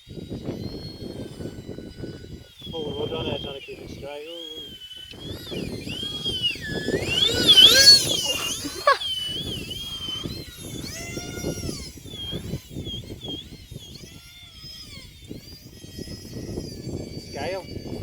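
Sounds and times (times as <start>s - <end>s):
model jet motors whining: 0.0s - 18.0s
wind buffeting microphone: 0.1s - 18.0s.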